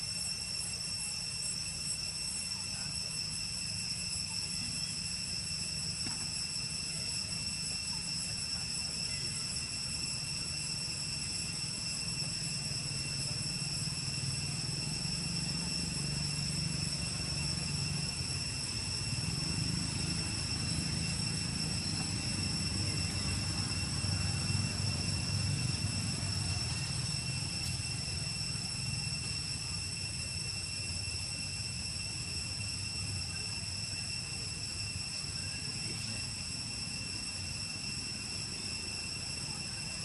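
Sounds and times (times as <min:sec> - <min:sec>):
constant high-pitched whine: 0:00.0 - 0:40.0.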